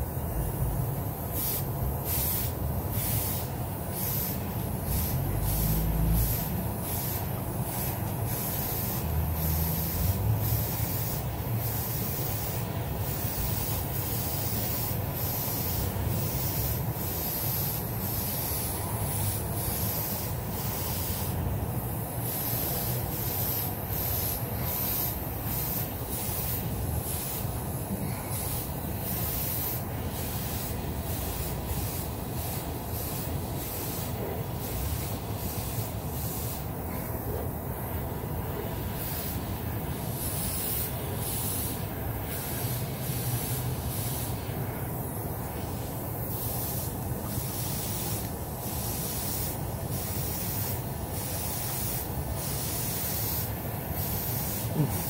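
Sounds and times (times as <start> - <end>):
airbrush spraying: 0.0 - 37.0, 37.7 - 55.0.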